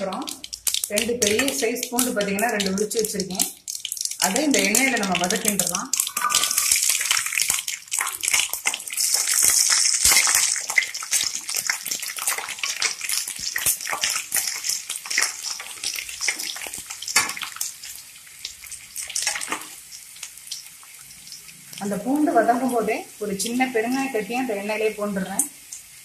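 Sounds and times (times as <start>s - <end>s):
garlic sizzling in hot oil: 0.0s - 26.0s.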